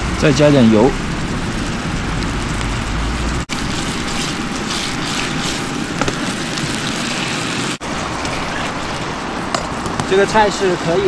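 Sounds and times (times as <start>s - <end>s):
meat sizzling in oil: 0.0s - 9.9s.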